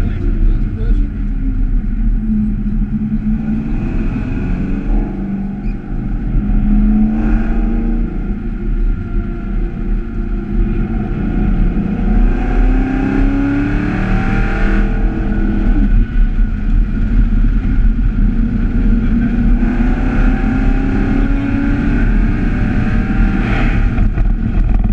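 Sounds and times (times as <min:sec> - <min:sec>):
car engine accelerating: 0:00.0 - 0:24.9
wind noise: 0:00.0 - 0:24.9.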